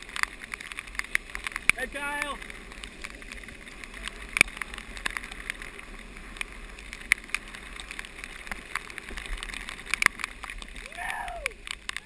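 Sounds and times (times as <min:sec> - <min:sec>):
sharp ticks: 0:00.0 - 0:10.8
rain: 0:00.0 - 0:12.0
storm wind: 0:00.0 - 0:12.0.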